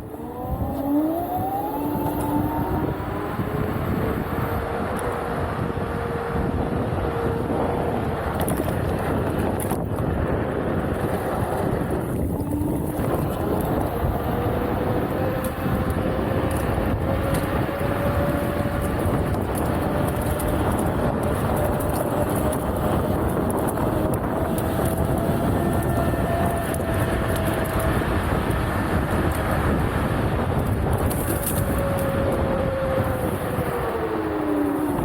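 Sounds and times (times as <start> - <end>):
electric motor whine: 0.0 - 9.8, 10.6 - 35.0
wind on microphone: 0.0 - 35.0
tyre noise: 0.1 - 35.0.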